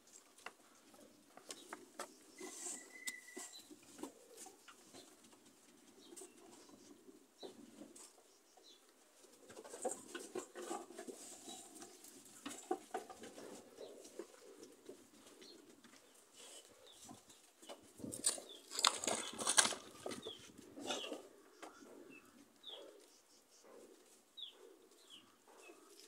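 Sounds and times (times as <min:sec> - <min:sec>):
goats and sheep rustling and shuffling: 0:00.0 - 0:26.0.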